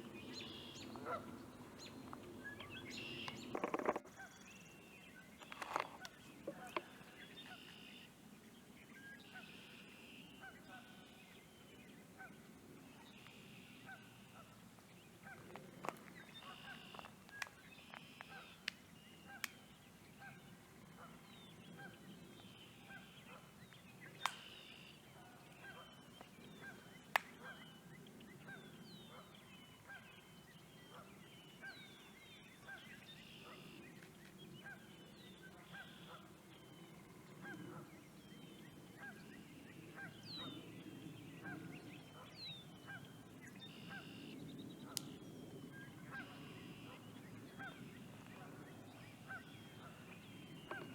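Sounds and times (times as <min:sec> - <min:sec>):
faint bird calls: 0:00.0 - 0:08.2, 0:08.9 - 0:50.9.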